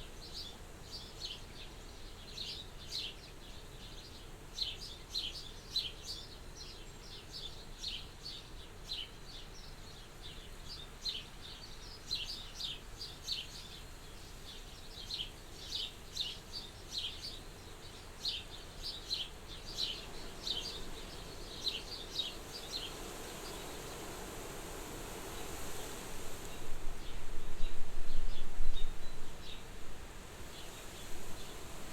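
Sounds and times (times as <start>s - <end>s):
wind hissing at a window: 0.0s - 31.9s.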